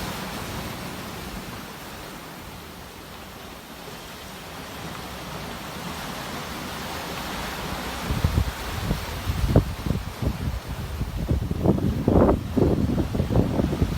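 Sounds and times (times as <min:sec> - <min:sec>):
sea waves washing ashore: 0:00.0 - 0:13.9.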